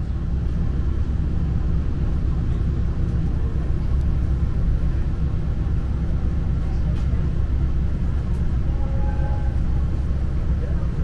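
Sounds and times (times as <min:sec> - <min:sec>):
diesel railcar engine idling: 0:00.0 - 0:11.0.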